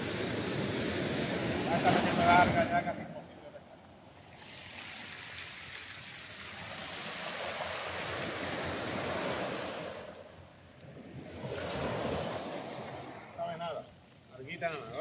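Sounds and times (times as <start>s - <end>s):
waves breaking on shore: 0.0s - 15.0s.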